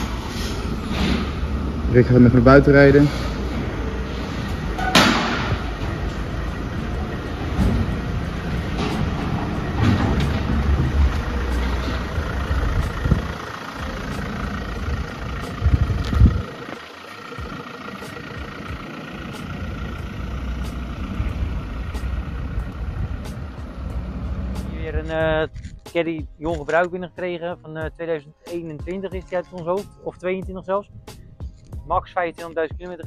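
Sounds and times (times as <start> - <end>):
van engine rumbling: 0.0 - 33.0.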